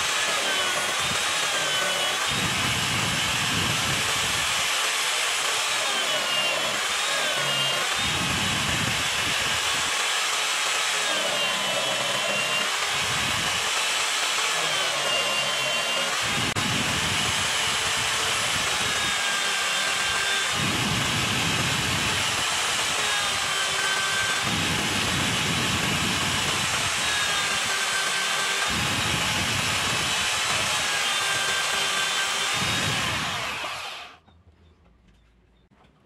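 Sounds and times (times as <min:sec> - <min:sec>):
drill bit grinding into wood: 0:00.0 - 0:34.2
drill motor high whine: 0:00.0 - 0:34.2.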